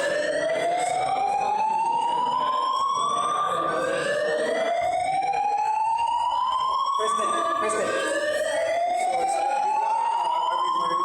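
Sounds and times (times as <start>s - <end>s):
fire alarm whoop tone: 0.0s - 11.0s.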